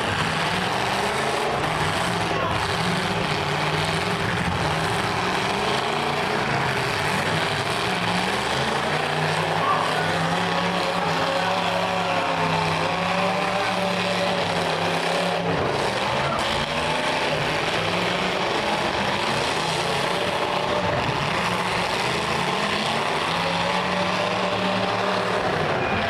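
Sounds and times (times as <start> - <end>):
car engines revving together: 0.0 - 26.0.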